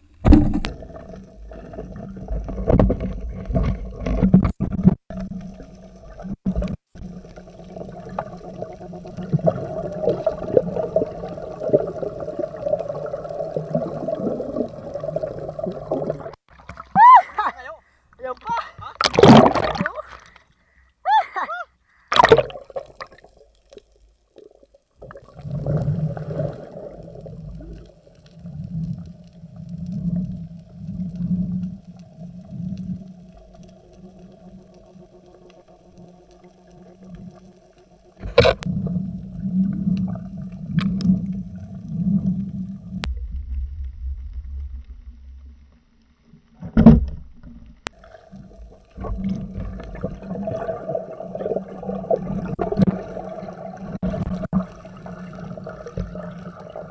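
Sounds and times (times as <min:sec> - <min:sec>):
water noise swells: 0:00.0 - 0:20.4, 0:22.1 - 0:56.9
steady underwater hum: 0:00.0 - 0:56.9.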